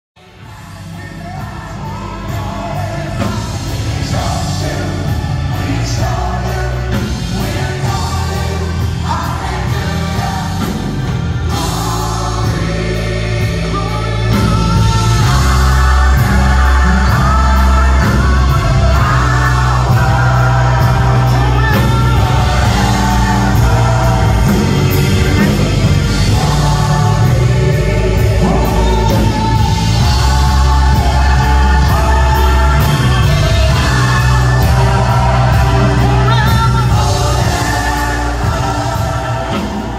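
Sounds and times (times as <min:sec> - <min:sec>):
drums: 0:00.1 - 0:39.9
bass guitar: 0:00.2 - 0:39.9
gospel choir singing: 0:00.2 - 0:39.9
keyboards: 0:00.2 - 0:39.9.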